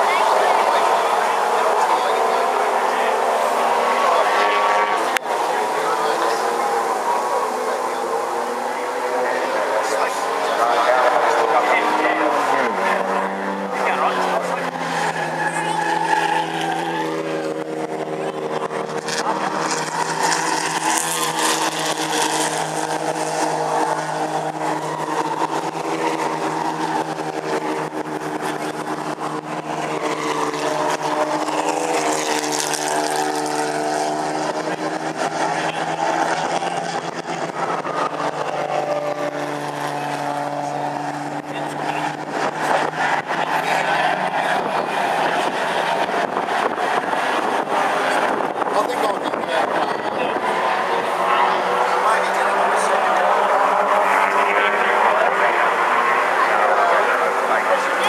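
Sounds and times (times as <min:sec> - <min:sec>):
racing car engines passing: 0:00.0 - 0:58.0.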